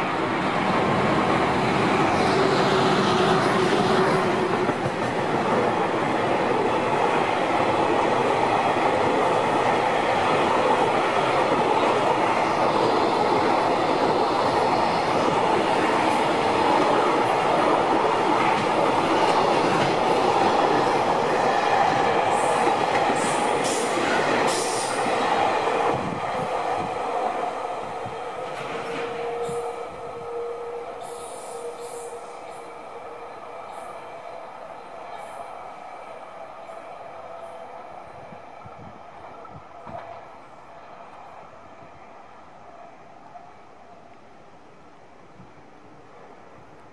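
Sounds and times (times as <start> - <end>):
train wagons rumbling on rails: 0.0 - 42.2.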